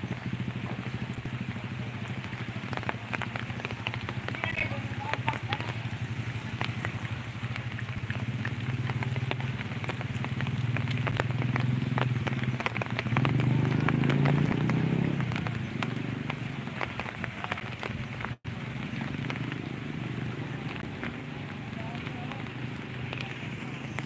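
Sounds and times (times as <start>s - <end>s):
raindrops ticking: 0.0s - 24.0s.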